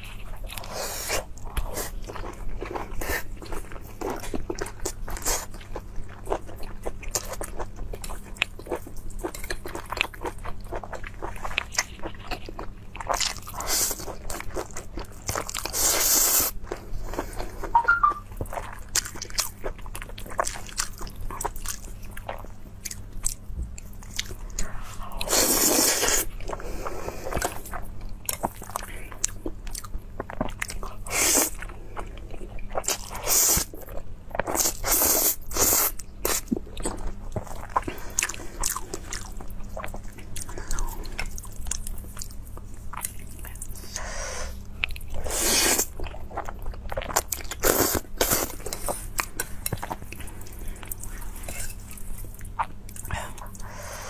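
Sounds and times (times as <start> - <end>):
wet chewing and lip-smacking: 0.0 - 26.6, 27.2 - 43.9, 44.6 - 53.8.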